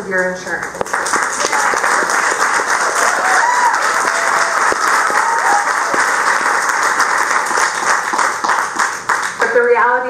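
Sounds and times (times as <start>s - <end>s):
crowd applauding: 0.7s - 9.6s.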